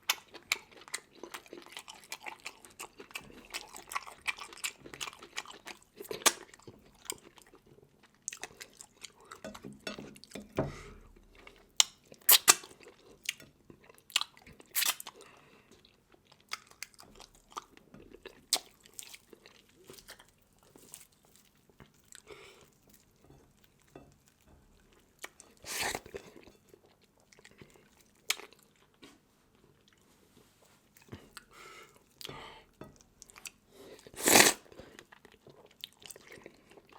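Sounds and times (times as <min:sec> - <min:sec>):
chewing crunchy seafood: 0:00.0 - 0:10.4, 0:11.3 - 0:30.1, 0:33.0 - 0:36.9.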